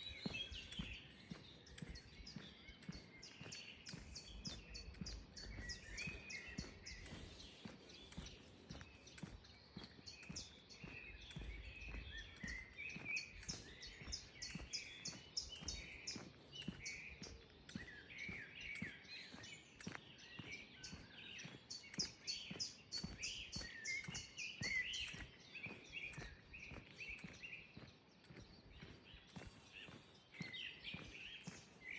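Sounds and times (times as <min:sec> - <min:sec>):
footsteps on a path: 0:00.0 - 0:31.9
songbirds chirping and singing: 0:00.0 - 0:31.9.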